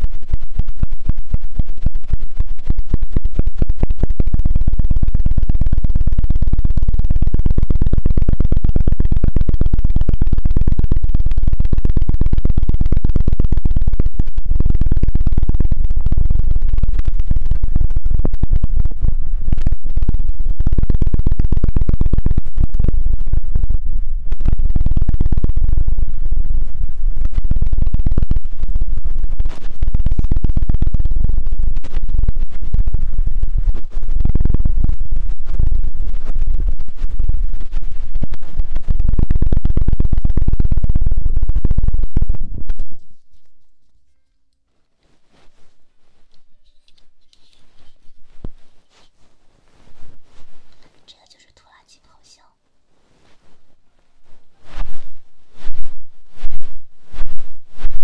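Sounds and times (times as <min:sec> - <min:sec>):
scratching and tapping on microphone: 0:00.0 - 0:52.5, 0:53.1 - 0:58.0.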